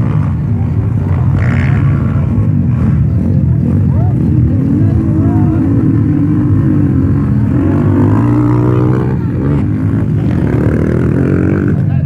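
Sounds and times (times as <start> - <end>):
motocross bike engines running: 0.0 - 12.0
motorbike engine revving: 0.0 - 12.0.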